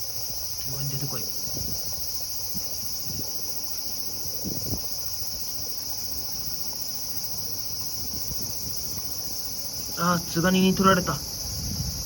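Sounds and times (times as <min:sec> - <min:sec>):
insects chorus buzzing: 0:00.0 - 0:12.0.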